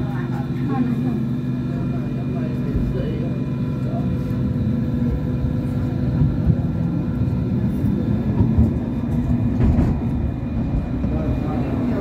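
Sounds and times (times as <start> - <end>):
faint traction equipment hum: 0.0 - 12.0
tram wheels rumbling on rail: 0.0 - 12.0.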